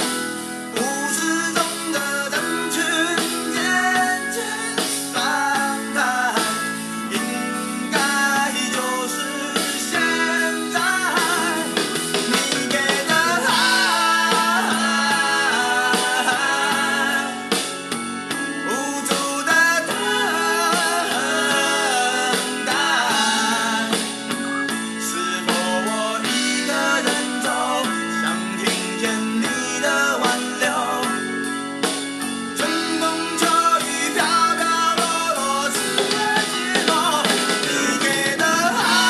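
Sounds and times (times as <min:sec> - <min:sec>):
drums: 0:00.0 - 0:39.0
guitar: 0:00.0 - 0:39.0
person singing: 0:00.7 - 0:31.4, 0:32.6 - 0:39.0.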